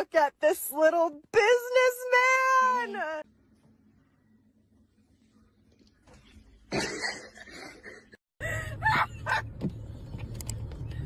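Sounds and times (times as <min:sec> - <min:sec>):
low engine hum in car cabin: 0:00.0 - 0:07.8, 0:08.4 - 0:11.0.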